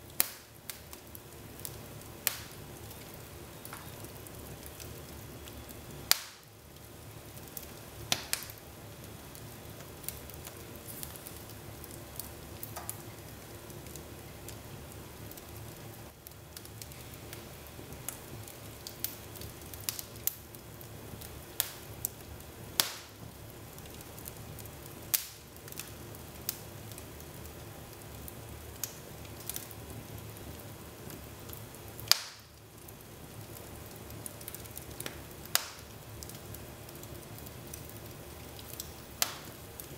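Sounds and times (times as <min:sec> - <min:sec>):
fire crackles and sharp pops: 0:00.0 - 0:39.9
wood fire rustling: 0:00.0 - 0:39.9.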